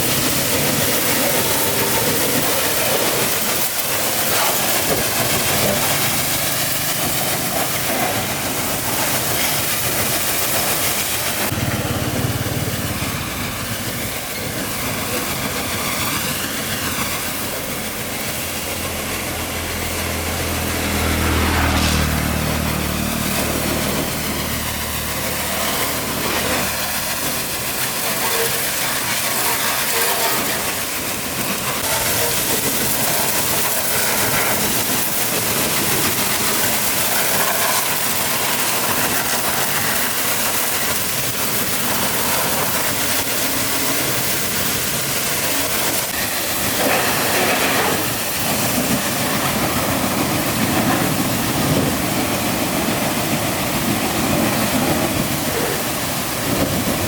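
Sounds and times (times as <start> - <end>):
loud hissing rush: 0.0 - 57.0.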